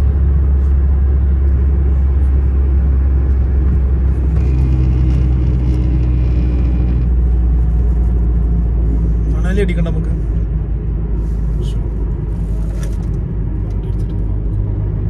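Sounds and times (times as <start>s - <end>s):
car road rumble: 0.0s - 15.0s.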